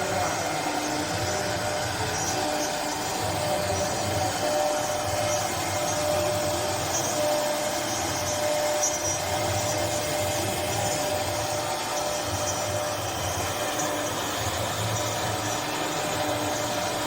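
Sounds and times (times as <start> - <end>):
thin steady whine: 0.0 - 17.0
woodworking machine running: 0.0 - 17.0.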